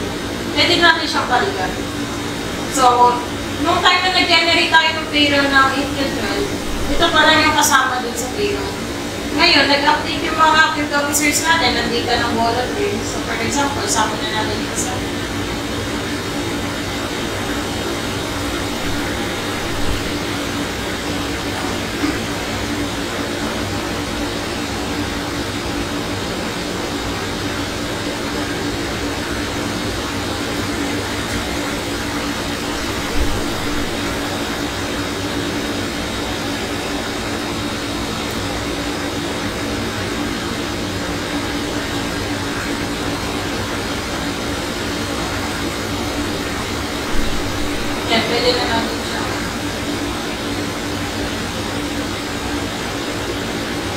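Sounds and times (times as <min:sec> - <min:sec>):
room noise hum and hiss: 0:00.0 - 0:53.9.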